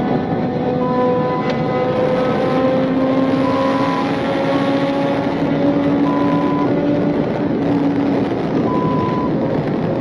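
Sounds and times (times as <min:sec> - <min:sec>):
car engine accelerating: 0:00.0 - 0:10.0
road and wind noise: 0:00.0 - 0:10.0.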